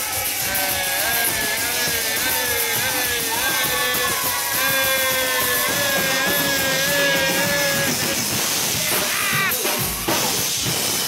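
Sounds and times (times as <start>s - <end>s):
live music with long held notes: 0.0s - 11.0s.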